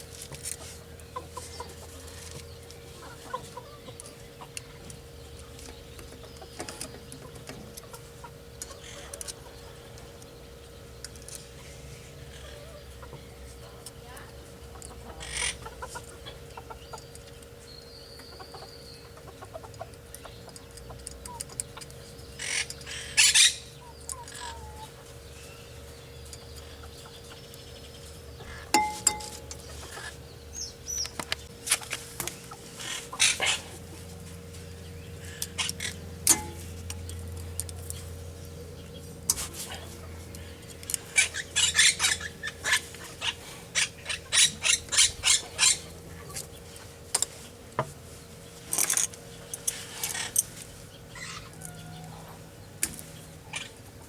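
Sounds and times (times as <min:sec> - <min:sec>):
birds chirping: 0:00.0 - 0:54.0
chickens clucking: 0:00.2 - 0:54.0.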